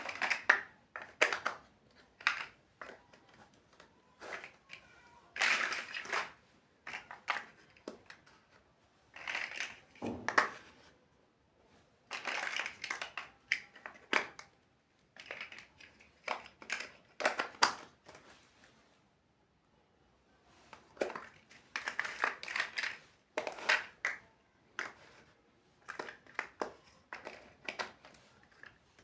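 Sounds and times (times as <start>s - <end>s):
plastic bricks clicking and rattling: 0.0s - 8.5s, 9.1s - 10.7s, 12.1s - 14.5s, 15.2s - 18.2s, 20.8s - 29.0s.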